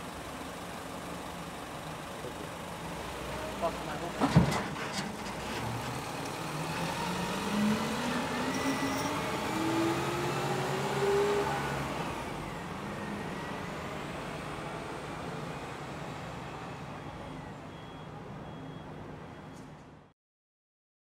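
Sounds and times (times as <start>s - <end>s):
truck engine accelerating: 0.0s - 19.2s.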